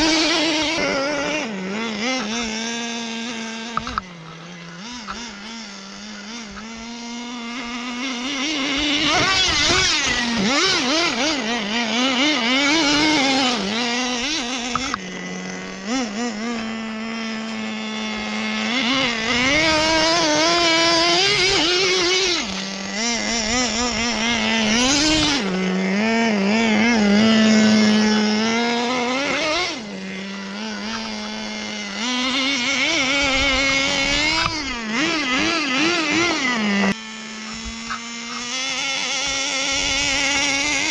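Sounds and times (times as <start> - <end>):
small engine revving: 0.0 - 40.9.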